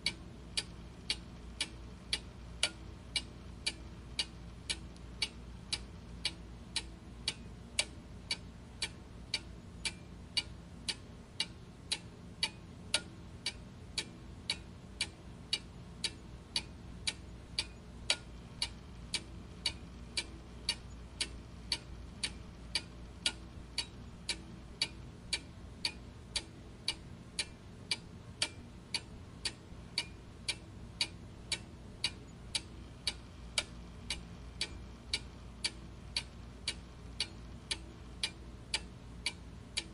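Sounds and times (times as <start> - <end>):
clock ticking: 0.0 - 39.9
faint low hum: 0.0 - 39.9.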